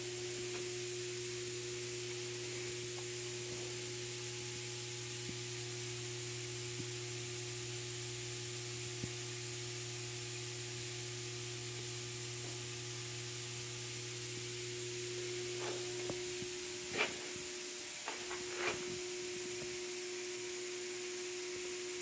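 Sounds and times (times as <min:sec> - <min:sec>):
lower hum: 0:00.0 - 0:22.0
machine hum and hiss: 0:00.0 - 0:22.0.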